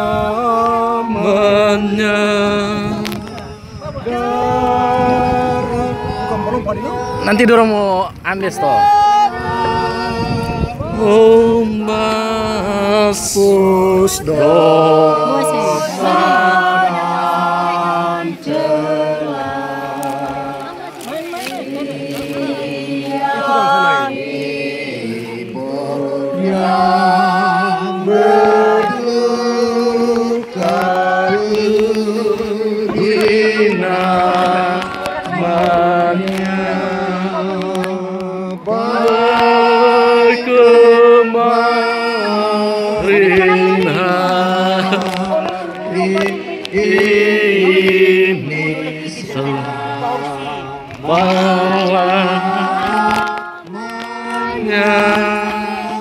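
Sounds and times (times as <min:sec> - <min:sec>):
group singing a slow hymn: 0:00.0 - 0:07.7, 0:08.4 - 0:56.0.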